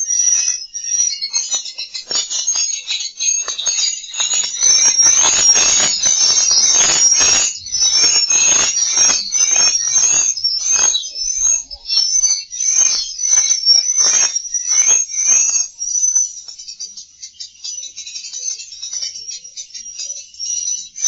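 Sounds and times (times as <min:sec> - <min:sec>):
swiftlet chirping and twittering: 0:00.0 - 0:21.0.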